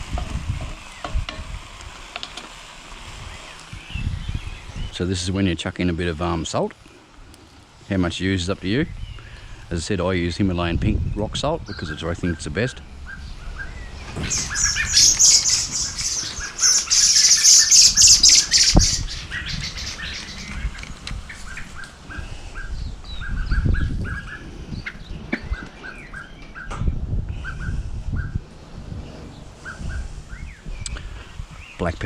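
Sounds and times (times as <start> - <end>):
small birds chirping: 0.0 - 2.0, 3.0 - 32.0.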